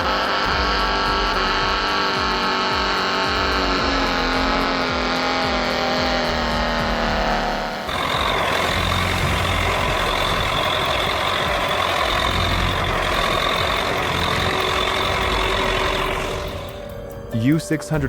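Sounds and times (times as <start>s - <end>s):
high whine: 0.0s - 18.0s
tractor engine running: 0.0s - 18.0s.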